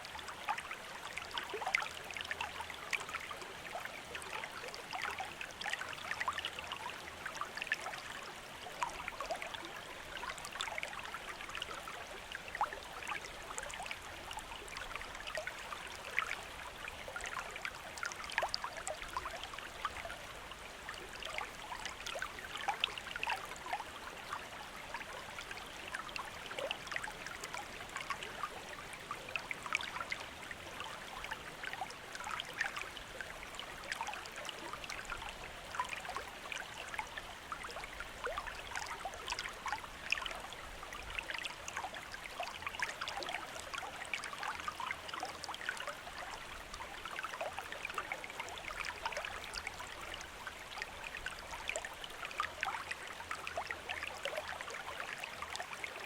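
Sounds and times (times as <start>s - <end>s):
stream babbling and trickling: 0.0s - 56.0s.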